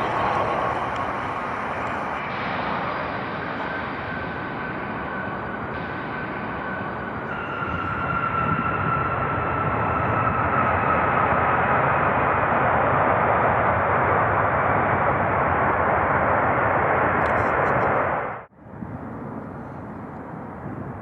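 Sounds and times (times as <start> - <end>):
jet engines passing: 0.0 - 21.0.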